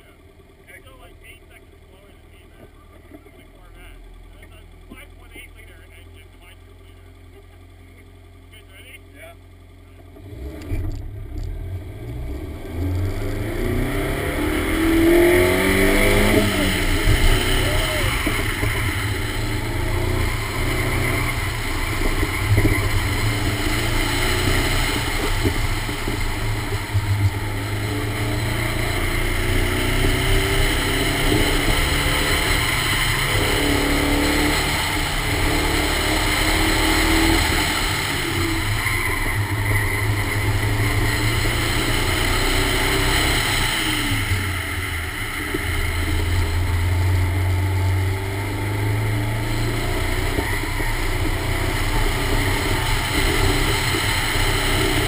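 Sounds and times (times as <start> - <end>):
car engine revving hard: 10.1 - 55.0
wind and road noise: 10.2 - 55.0.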